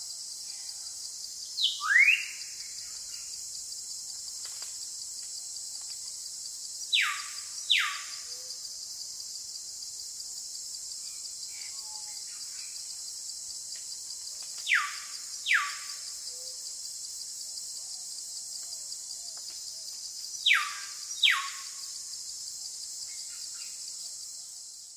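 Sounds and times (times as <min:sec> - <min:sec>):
high-pitched insect chorus: 0:00.0 - 0:24.9.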